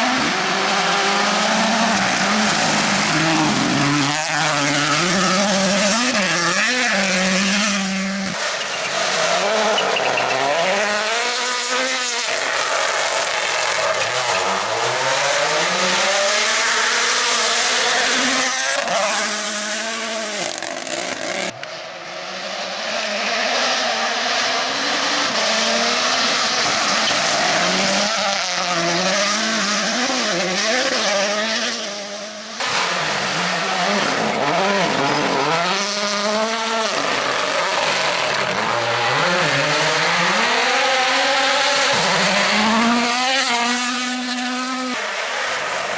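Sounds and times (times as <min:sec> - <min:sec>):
rally car engines at full throttle: 0:00.0 - 0:45.9.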